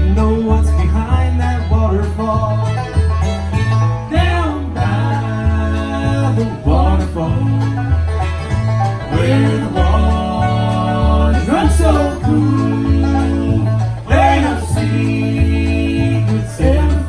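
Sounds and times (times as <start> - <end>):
banjo picking: 0.0 - 17.0
bass line: 0.0 - 17.0
guitar picking: 0.0 - 17.0.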